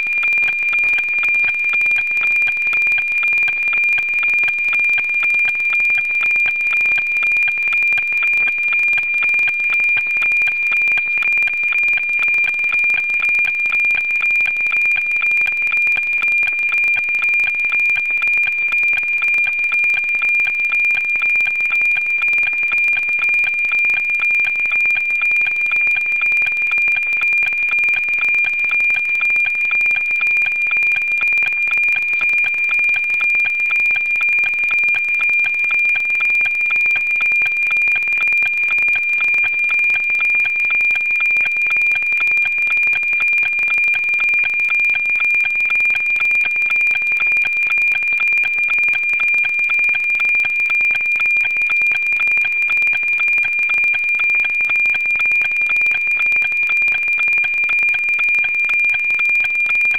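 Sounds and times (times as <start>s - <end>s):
satellite signal tone with ticking: 0.0s - 59.9s.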